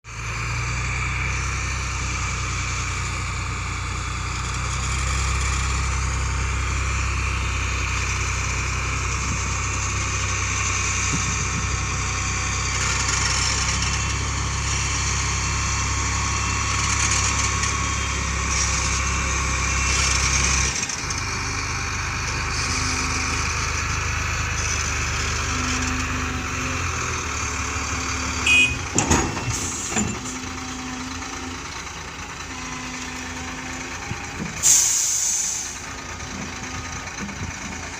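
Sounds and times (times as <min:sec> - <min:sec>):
engine running with low hum: 0:00.1 - 0:37.9.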